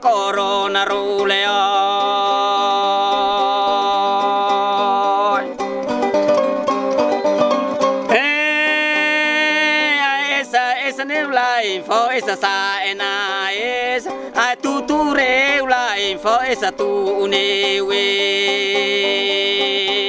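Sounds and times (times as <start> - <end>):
plucked zither strings: 0.0 - 20.0.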